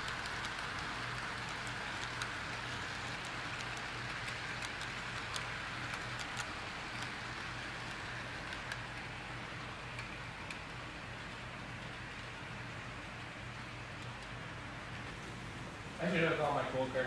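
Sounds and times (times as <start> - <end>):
low steady hum: 0.0 - 17.0
wheels clicking on rails: 0.0 - 17.0.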